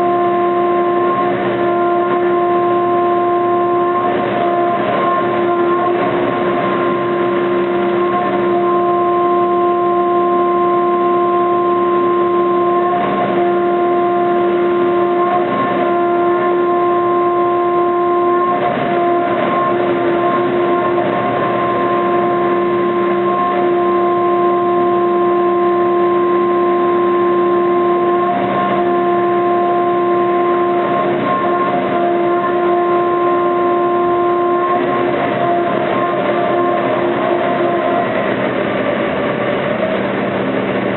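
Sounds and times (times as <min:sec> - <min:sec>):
milling cutter whine: 0:00.0 - 0:40.9
noisy hiss: 0:00.0 - 0:40.9.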